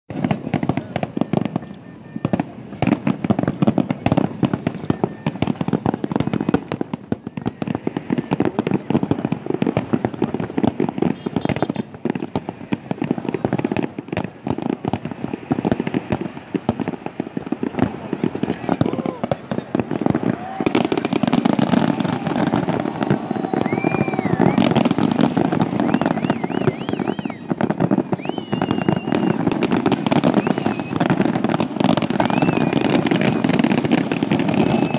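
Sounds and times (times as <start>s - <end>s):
fireworks bangs and pops: 0.1s - 34.9s.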